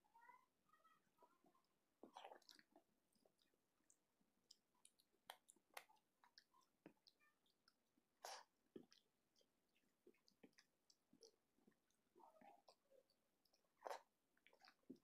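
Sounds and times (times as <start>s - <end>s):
person chewing food: 1.4s - 15.0s.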